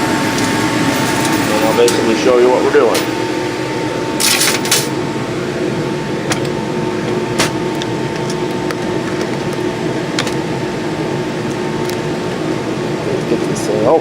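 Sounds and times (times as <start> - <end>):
steady fan hum: 0.0 - 14.0.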